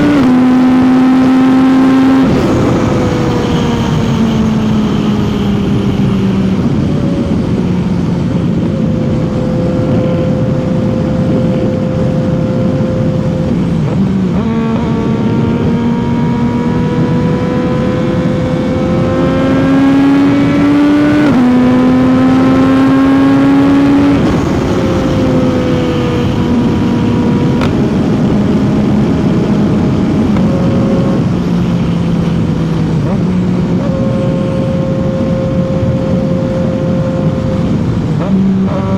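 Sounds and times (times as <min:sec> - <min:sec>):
motorcycle engine and exhaust accelerating: 0:00.0 - 0:38.9
wind and road noise: 0:00.0 - 0:38.9.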